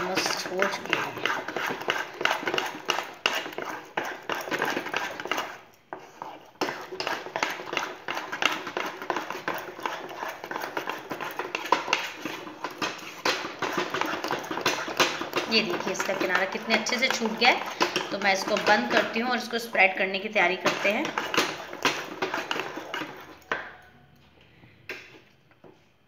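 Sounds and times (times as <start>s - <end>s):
spatula scraping saucepan: 0.0s - 23.7s.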